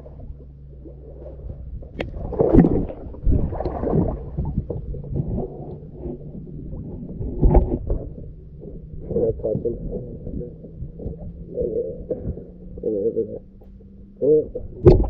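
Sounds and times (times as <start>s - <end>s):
water sloshing around kayak: 0.0s - 15.0s.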